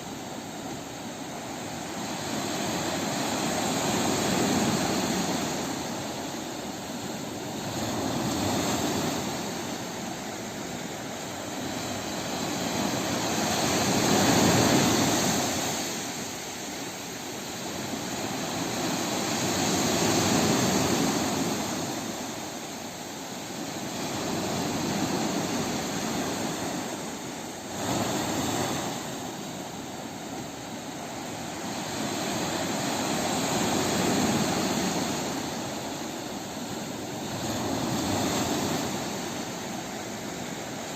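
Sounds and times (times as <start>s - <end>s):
sea waves washing ashore: 0.0s - 40.9s.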